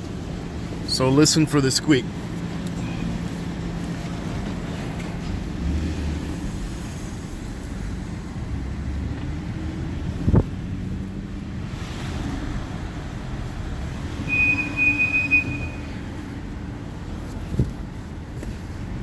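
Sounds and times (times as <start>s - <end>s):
brakes squeaking: 0.0s - 7.8s, 8.9s - 19.0s
car engine and road noise hum: 0.0s - 19.0s.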